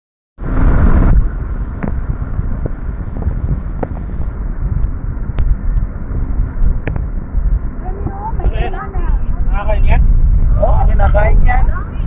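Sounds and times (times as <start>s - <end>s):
car road and wind noise: 0.4s - 12.0s.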